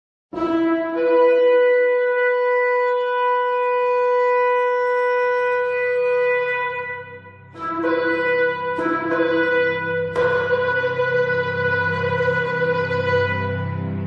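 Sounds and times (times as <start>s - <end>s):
ram's horn blast: 0.4s - 14.0s.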